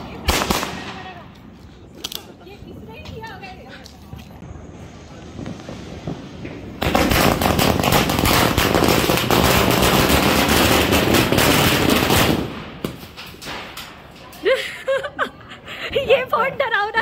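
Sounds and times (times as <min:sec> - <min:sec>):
firecrackers banging: 0:00.0 - 0:14.6.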